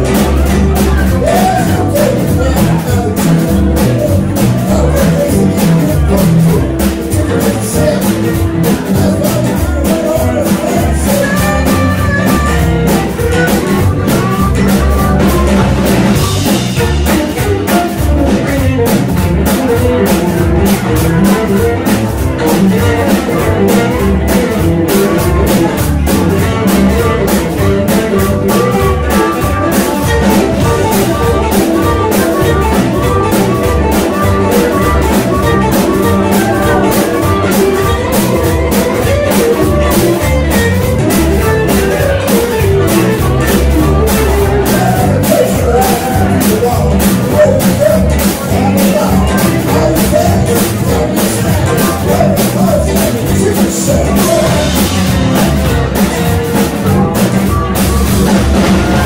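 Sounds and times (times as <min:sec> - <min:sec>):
drum kit beat: 0:00.0 - 0:59.0
electric guitar: 0:00.0 - 0:59.0.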